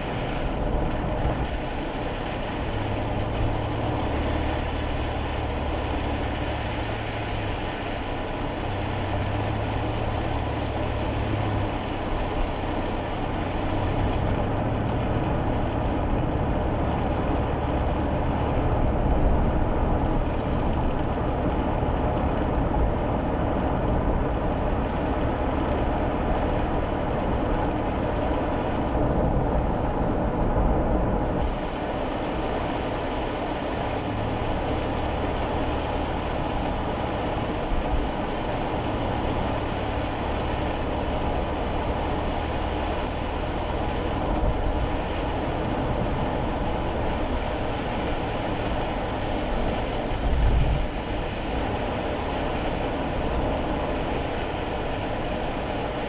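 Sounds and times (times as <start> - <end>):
car engine hum: 0.0 - 56.0
tyre noise on wet road: 0.0 - 56.0.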